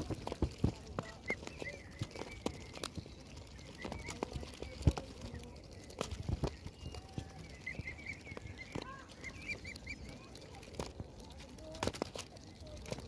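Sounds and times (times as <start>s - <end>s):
cygnets peeping: 0.0s - 13.0s.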